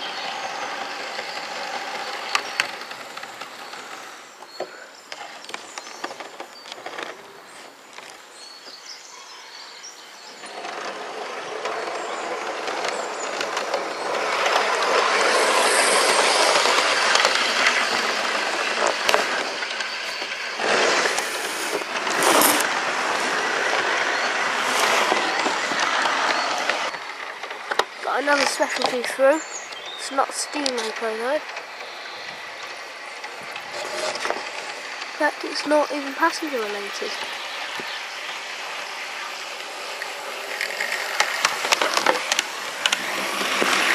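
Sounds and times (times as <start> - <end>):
sharp track clicks: 0.0 - 7.3, 10.2 - 43.9
model train rolling rumble: 0.0 - 43.9.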